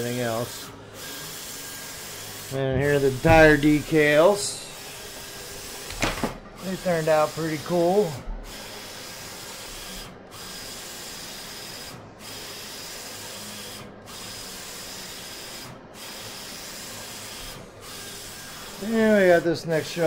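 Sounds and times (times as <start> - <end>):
printer whirring: 0.0 - 20.0.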